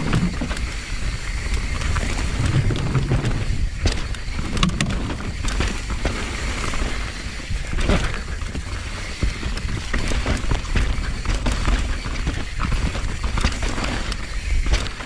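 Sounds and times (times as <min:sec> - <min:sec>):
bike tyre noise: 0:00.0 - 0:15.0
wind buffeting microphone: 0:00.0 - 0:15.0.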